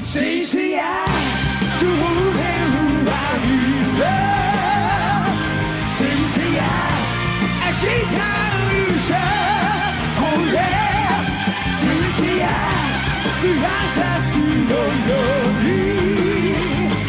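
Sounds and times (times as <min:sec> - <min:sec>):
live rock band: 0:00.0 - 0:17.0
man singing with vibrato: 0:00.0 - 0:17.0.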